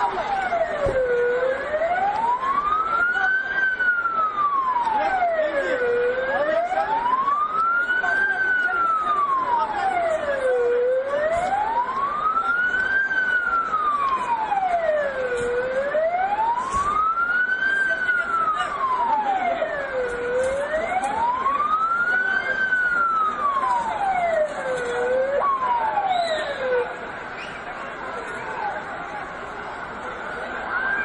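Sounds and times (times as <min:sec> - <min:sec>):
emergency siren wailing: 0:00.0 - 0:27.2, 0:28.3 - 0:31.0.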